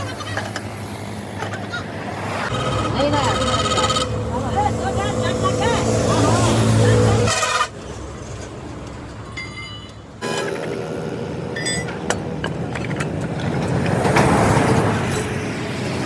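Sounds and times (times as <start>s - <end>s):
engine running: 0.0s - 16.0s
passing traffic: 0.0s - 16.0s.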